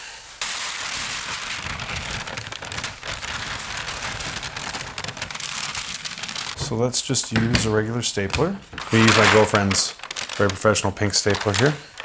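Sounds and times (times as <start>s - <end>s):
plastic sheet crinkling: 0.4s - 12.0s.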